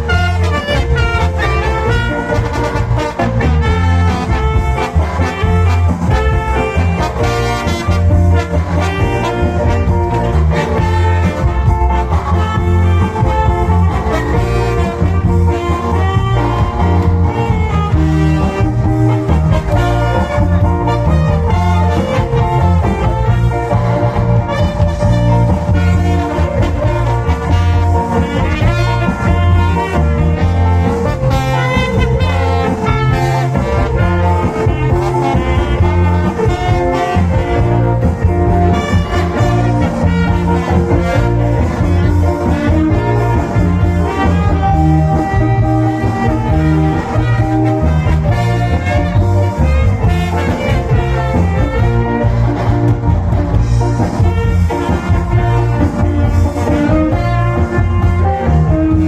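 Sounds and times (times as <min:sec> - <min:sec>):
cha-cha dance music: 0:00.0 - 0:59.0.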